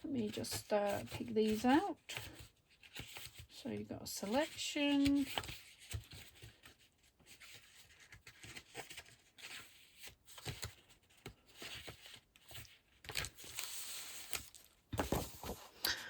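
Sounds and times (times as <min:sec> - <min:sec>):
paper rustling: 0:00.2 - 0:03.6, 0:04.2 - 0:15.9.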